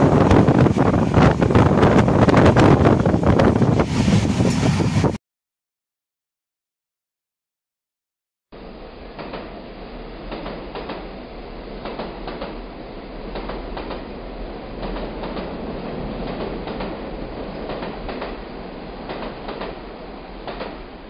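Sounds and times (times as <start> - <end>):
train wheels rumbling on track: 0.0 - 5.2, 8.6 - 21.0.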